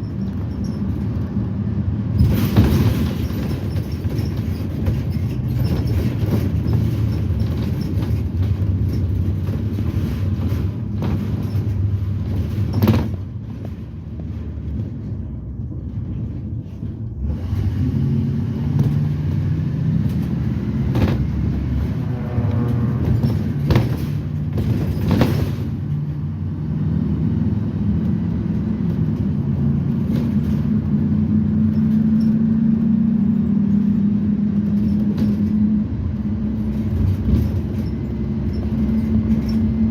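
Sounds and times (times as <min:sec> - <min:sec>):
body rattles and knocks: 0:00.0 - 0:17.2, 0:18.7 - 0:26.4, 0:27.7 - 0:39.9
bus engine: 0:00.0 - 0:39.9.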